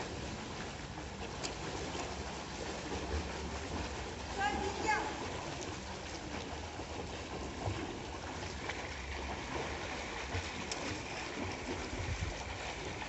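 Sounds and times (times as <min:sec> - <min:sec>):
swimmers splashing in a pool: 0:00.0 - 0:13.0.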